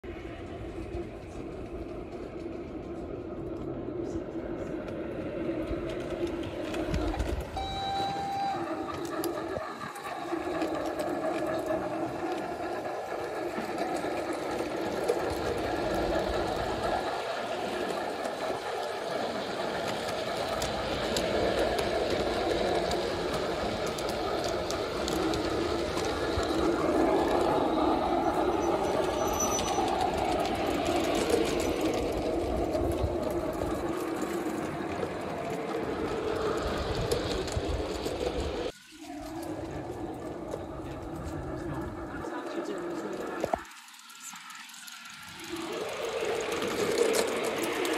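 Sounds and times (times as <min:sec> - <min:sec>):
model train motor whirring: 0:04.2 - 0:47.9.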